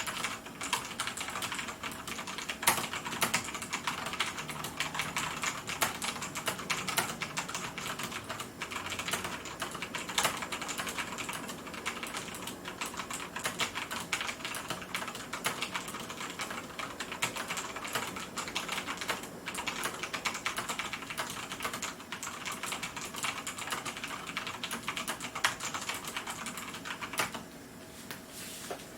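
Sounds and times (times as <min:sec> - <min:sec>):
mechanical keyboard typing: 0:00.0 - 0:27.4.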